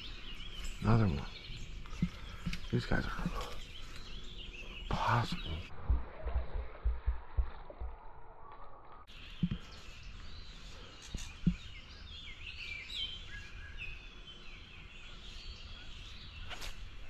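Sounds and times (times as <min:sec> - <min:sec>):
songbirds chirping and warbling: 0:00.0 - 0:17.0.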